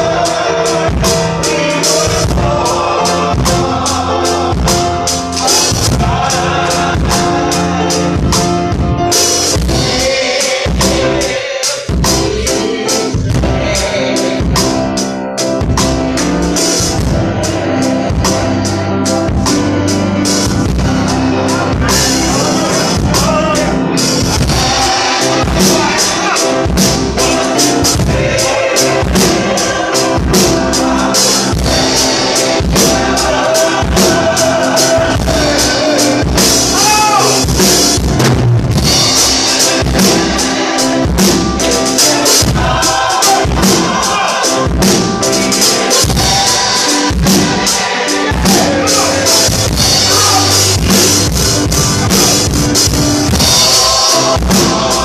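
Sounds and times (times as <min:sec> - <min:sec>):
choir singing gospel: 0:00.0 - 0:55.0
piano: 0:00.0 - 0:55.0
steady drum beat: 0:00.0 - 0:55.0.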